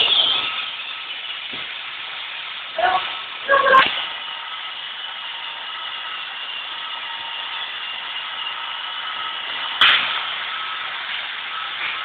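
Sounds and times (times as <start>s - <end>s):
robot vacuum whirring: 0.0s - 12.0s.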